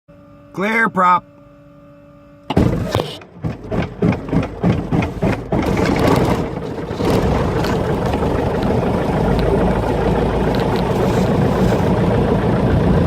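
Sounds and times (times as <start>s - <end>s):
piston engine starting and running: 2.4s - 13.0s.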